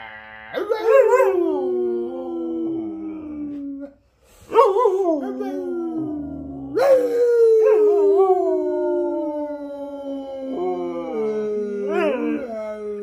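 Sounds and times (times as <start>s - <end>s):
husky howling: 0.6s - 3.9s, 4.6s - 13.0s.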